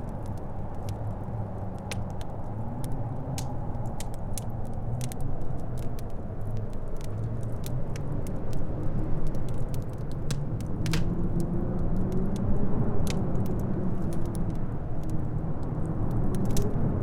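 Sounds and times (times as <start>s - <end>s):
wind howling: 0.0s - 17.0s
wood fire crackling and popping: 0.0s - 17.0s.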